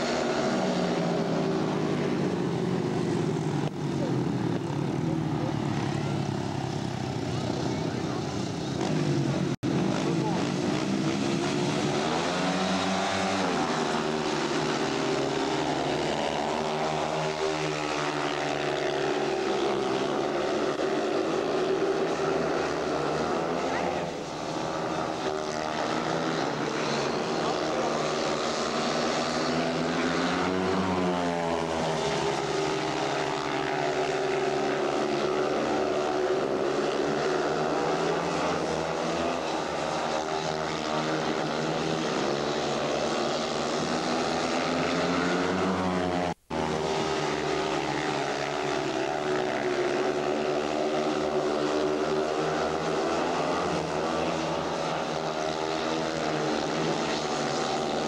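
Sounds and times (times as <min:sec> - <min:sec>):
motorcycle engines racing: 0:00.0 - 0:58.0.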